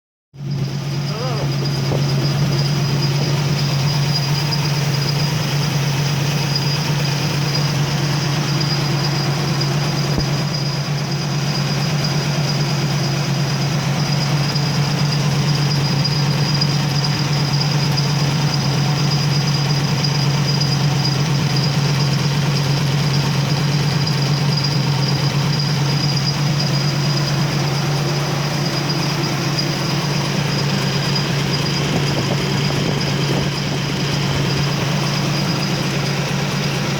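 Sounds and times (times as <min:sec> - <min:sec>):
car engine idling: 0:00.4 - 0:36.9.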